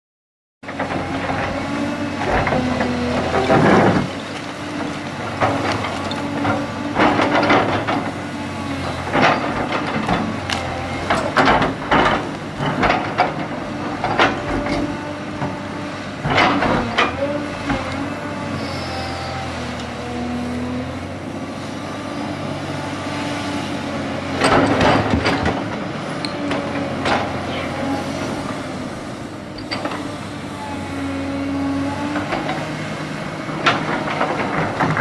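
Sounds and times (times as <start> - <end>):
excavator diesel engine under load: 0.6 - 35.0.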